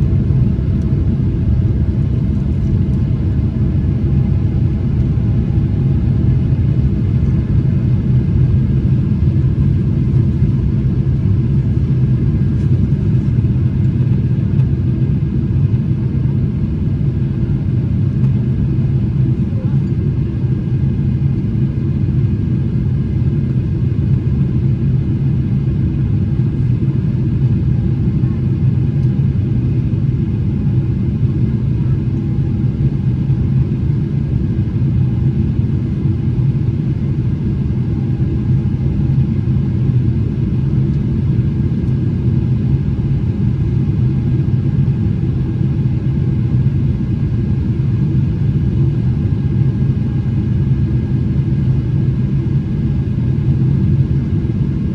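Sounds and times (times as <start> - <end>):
jet engine rumble: 0.0 - 54.9.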